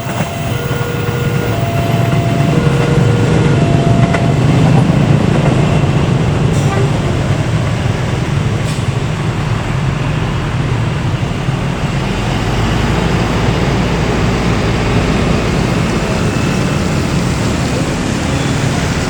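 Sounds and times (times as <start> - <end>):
vehicle rumble and hiss: 0.0 - 19.0.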